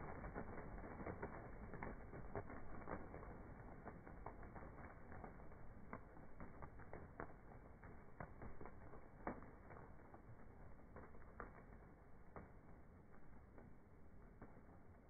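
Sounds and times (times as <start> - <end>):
pigeon wings flapping: 0.0 - 15.0.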